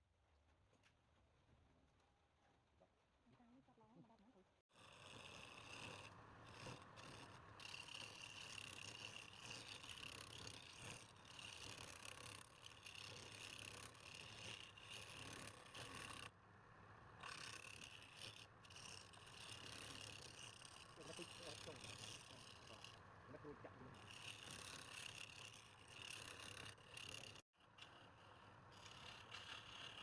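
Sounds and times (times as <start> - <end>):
lathe tool scraping wood: 4.7 - 16.4, 17.2 - 30.0
wood lathe running: 4.8 - 16.3, 17.2 - 30.0.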